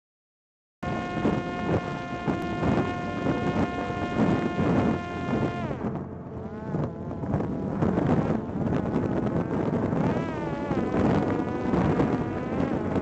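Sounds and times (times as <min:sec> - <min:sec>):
drone propeller whining: 0:00.8 - 0:13.0
wind buffeting microphone: 0:00.8 - 0:13.0.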